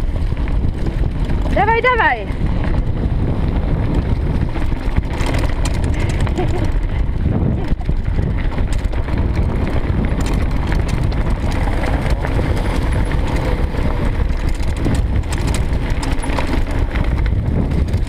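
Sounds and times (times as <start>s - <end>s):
bike rattling and clicking: 0.0s - 18.0s
bike tyres rumbling on gravel: 0.0s - 18.0s.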